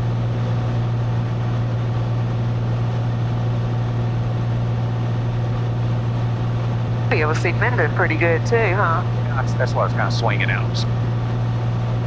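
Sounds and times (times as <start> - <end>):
propeller engine drone: 0.0 - 12.0.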